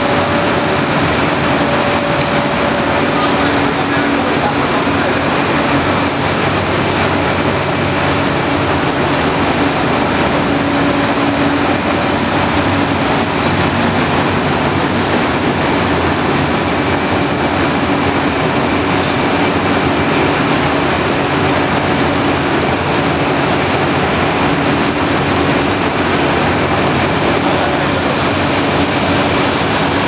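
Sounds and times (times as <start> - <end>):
low hum: 0.0 - 24.1
dryer machine running: 0.0 - 30.0.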